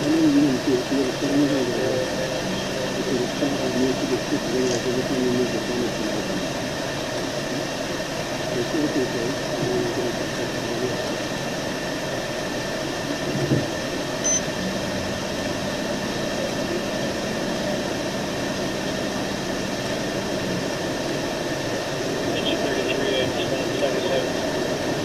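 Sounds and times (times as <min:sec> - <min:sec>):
low steady hum: 0:00.0 - 0:25.0
vehicle ventilation fan hiss: 0:00.0 - 0:25.0.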